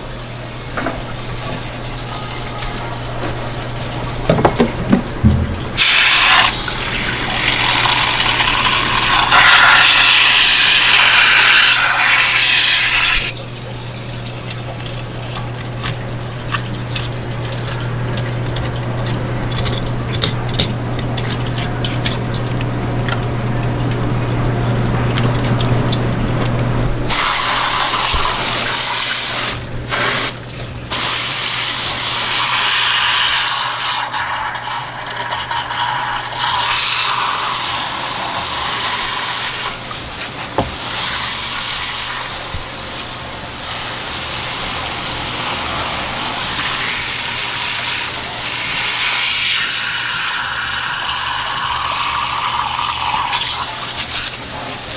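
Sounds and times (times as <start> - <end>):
hose water splashing into fish: 0.7 - 54.9.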